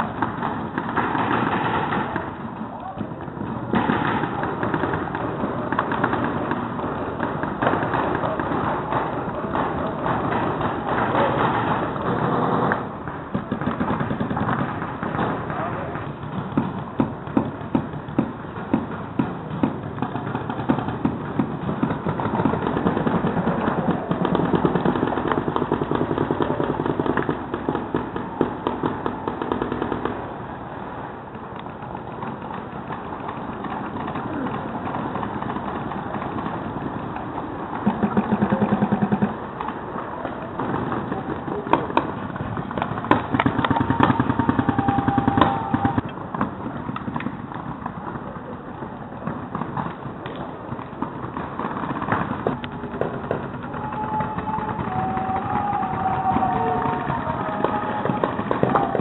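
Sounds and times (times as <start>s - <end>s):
paintball markers firing: 0.0s - 30.2s, 31.4s - 59.0s.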